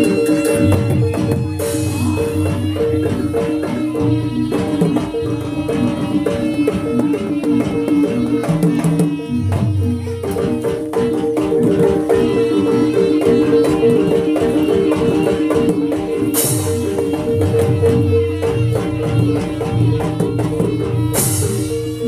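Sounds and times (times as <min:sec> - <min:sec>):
hand drums: 0:00.0 - 0:22.0.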